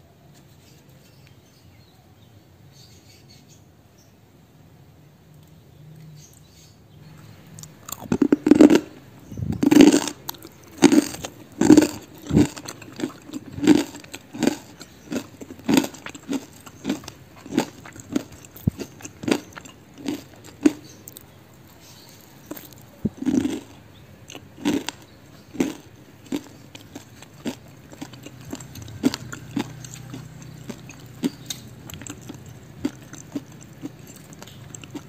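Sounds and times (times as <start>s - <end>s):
crunchy chewing of fried snack: 5.4s - 35.0s.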